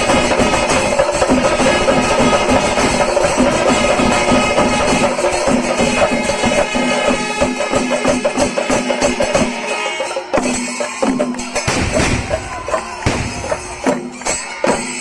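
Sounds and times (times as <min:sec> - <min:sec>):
clashing cymbals: 0:00.0 - 0:15.0
drums beaten in rapid strokes: 0:00.0 - 0:15.0.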